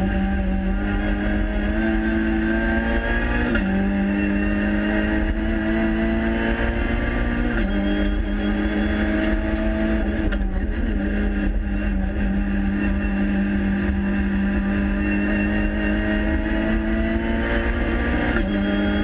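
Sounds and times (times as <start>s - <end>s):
race car engine running hard: 0.0s - 19.0s.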